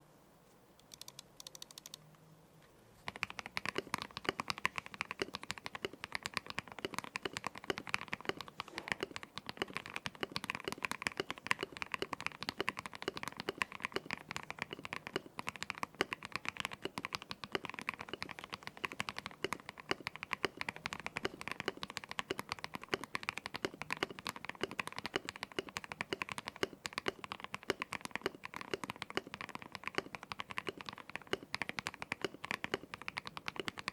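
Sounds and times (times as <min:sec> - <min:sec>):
mechanical keyboard typing: 0:00.8 - 0:02.0, 0:03.1 - 0:33.9.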